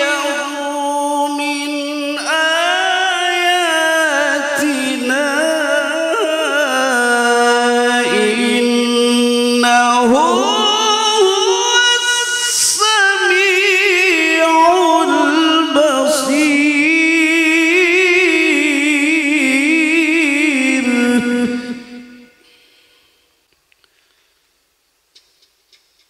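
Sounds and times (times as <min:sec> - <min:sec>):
man reciting melodically over loudspeakers: 0:00.0 - 0:22.7.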